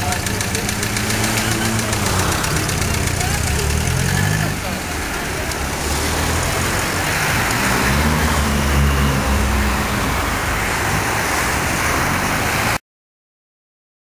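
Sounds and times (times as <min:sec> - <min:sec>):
road traffic passing: 0:00.0 - 0:12.8
truck engine hum: 0:00.0 - 0:12.8.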